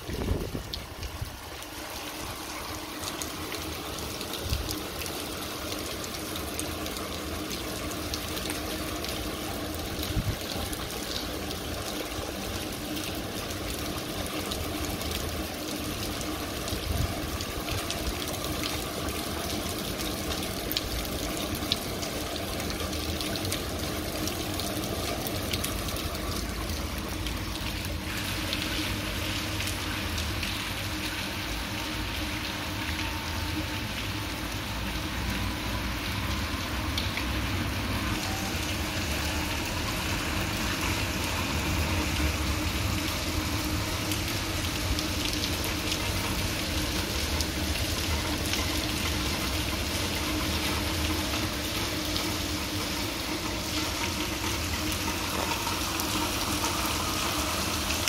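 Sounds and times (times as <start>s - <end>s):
rain on a street: 0.0s - 58.0s.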